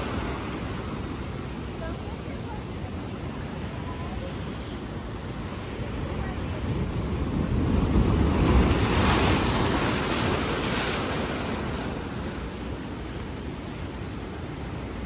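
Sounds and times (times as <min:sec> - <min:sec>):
ocean wave surging over rocks: 0:00.0 - 0:15.0.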